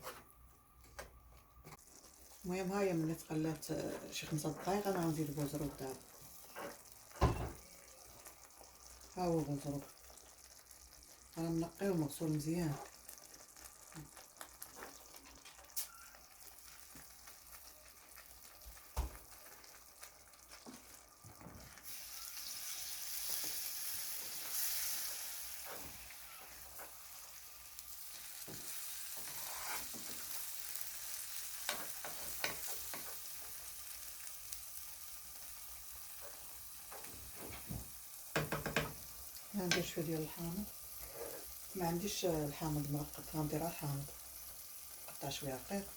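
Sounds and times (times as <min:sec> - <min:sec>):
food sizzling in oil in a pan: 0:01.6 - 0:45.9.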